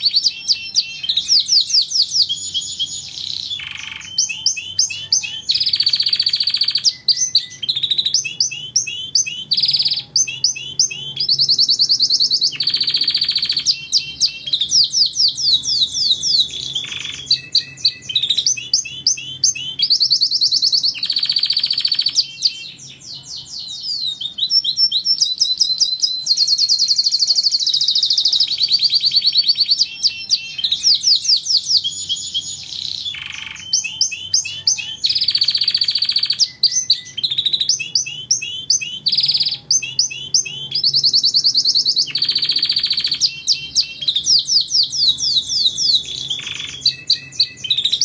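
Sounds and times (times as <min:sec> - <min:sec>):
canary singing trills: 0:00.0 - 0:48.0.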